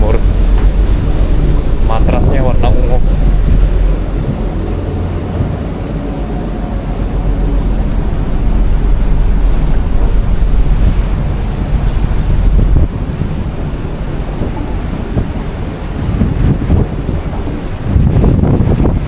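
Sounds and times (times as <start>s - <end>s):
sea rushing: 0.0s - 19.0s
ship noise: 0.0s - 19.0s
wind buffeting microphone: 0.0s - 19.0s.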